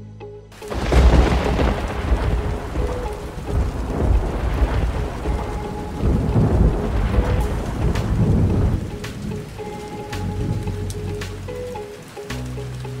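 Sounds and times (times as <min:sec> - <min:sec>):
rolling thunder: 0:00.6 - 0:11.2
heavy rain: 0:00.6 - 0:13.0.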